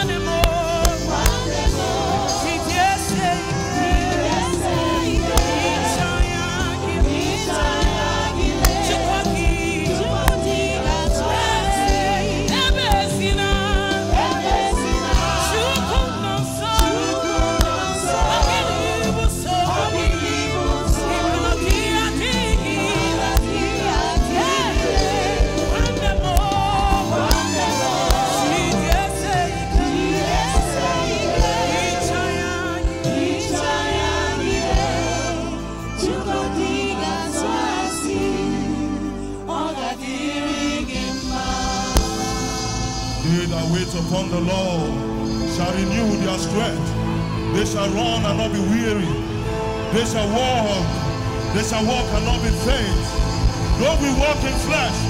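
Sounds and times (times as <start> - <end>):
gospel singers with band: 0.0 - 55.0.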